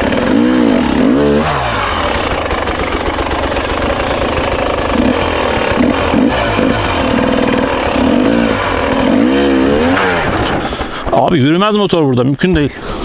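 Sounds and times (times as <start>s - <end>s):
motorcycle engine revving hard: 0.0s - 11.1s.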